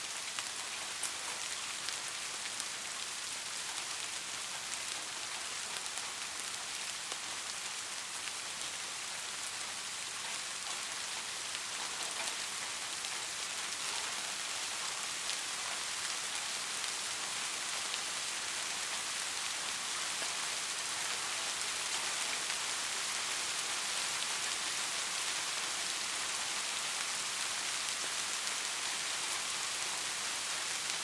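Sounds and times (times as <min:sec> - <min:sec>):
steady rain hiss: 0:00.0 - 0:31.0.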